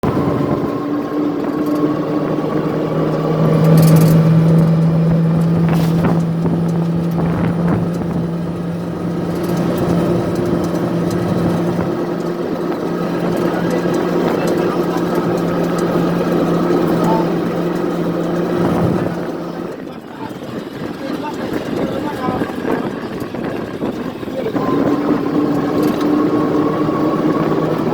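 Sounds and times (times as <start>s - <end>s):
motor engine humming: 0.0s - 27.9s.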